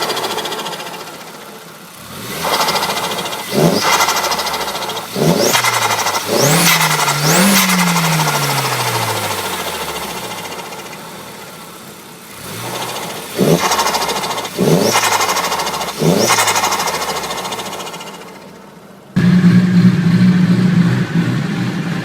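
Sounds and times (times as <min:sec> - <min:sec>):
turbocharged engine revving: 0:00.0 - 0:22.0.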